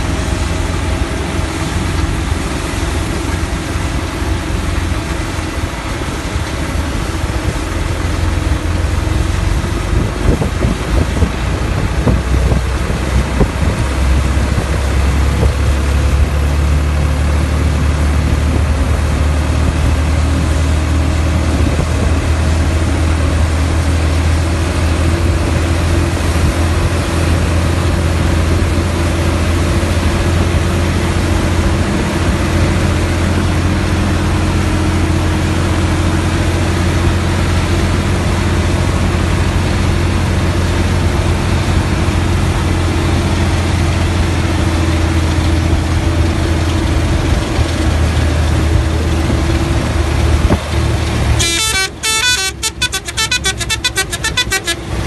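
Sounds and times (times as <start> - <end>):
combine harvester engine hum: 0.0 - 55.0
threshing machinery noise: 0.0 - 55.0.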